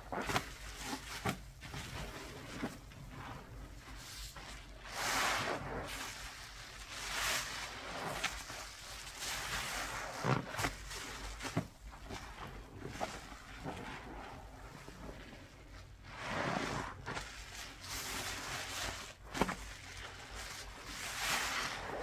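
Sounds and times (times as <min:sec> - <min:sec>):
paste rubbing and squishing: 0:00.1 - 0:22.0.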